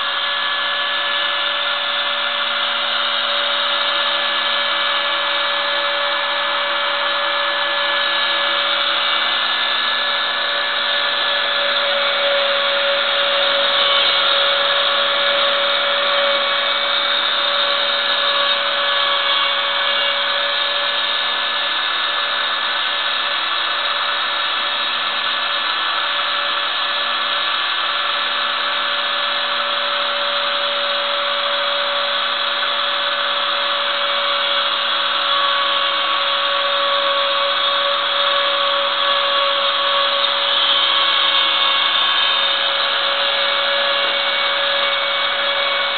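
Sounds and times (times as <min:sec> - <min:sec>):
bit carving wood: 0:00.0 - 0:45.9
cnc router spindle whine: 0:00.0 - 0:45.9.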